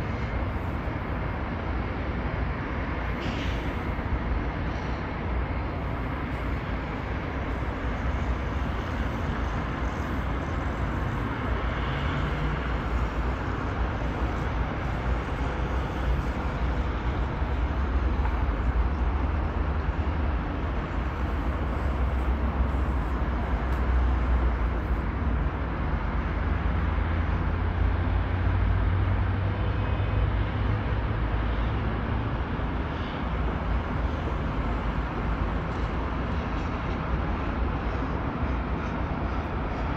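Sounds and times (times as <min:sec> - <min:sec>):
distant highway traffic rumble: 0:00.0 - 0:39.9.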